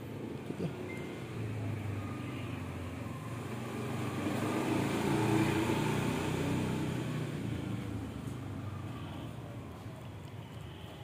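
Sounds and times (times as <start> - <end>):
motor vehicle passing: 0.6 - 10.1.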